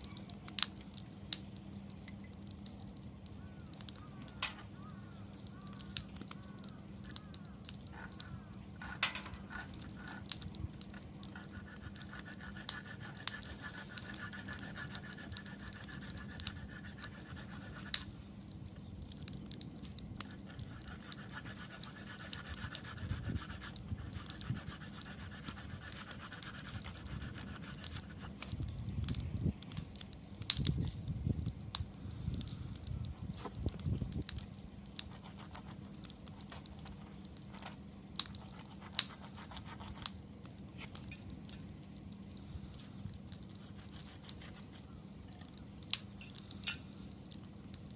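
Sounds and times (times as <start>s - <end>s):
faint fluttering hiss: 0.0s - 47.9s
wood bonfire crackling: 0.0s - 47.9s.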